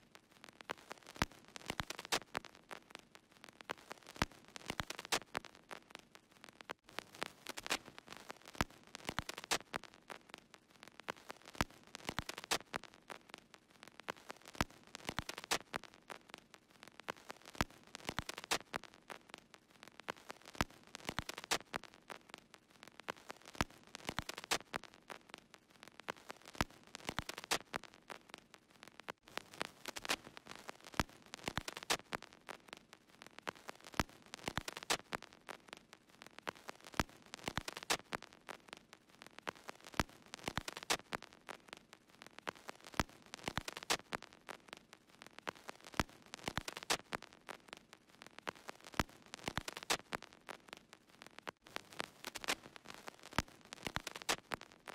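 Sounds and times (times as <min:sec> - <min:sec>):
record crackle: 0:00.0 - 0:54.9.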